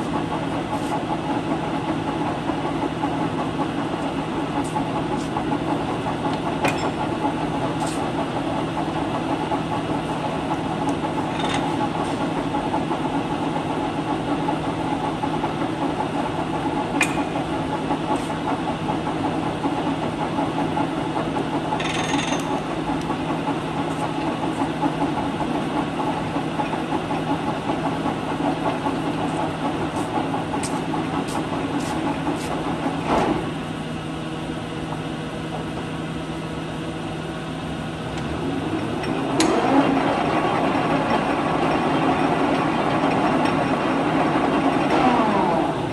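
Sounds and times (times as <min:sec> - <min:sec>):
lathe running hum: 0:00.0 - 0:45.9.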